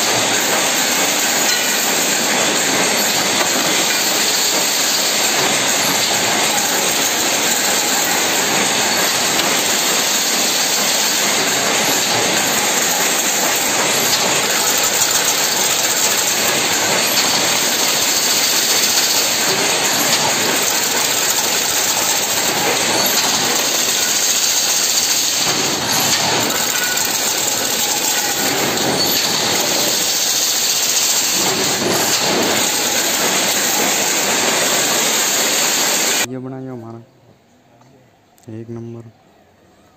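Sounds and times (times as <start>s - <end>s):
fence weaving machine running: 0.0s - 36.3s.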